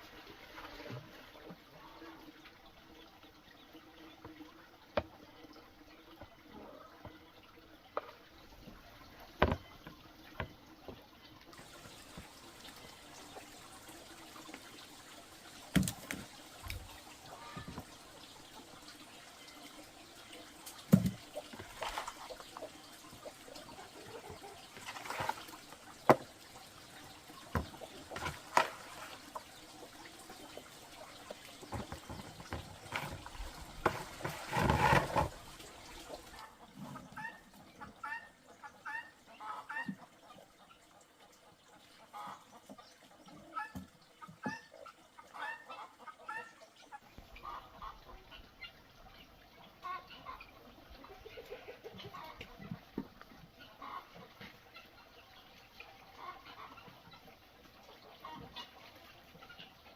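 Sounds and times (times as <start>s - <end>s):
water splashing and trickling: 0.0s - 59.9s.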